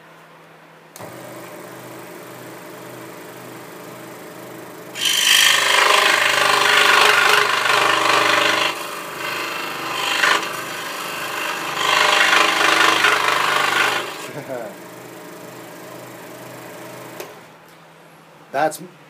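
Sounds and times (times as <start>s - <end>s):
scroll saw cutting wood: 1.0s - 15.6s, 16.5s - 17.5s
motor humming: 1.0s - 17.6s.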